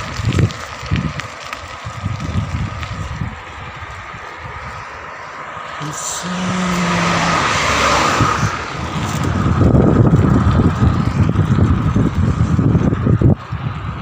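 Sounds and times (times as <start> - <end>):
vehicle passing on road: 0.0 - 14.0
wind rumbling on microphone: 0.0 - 14.0.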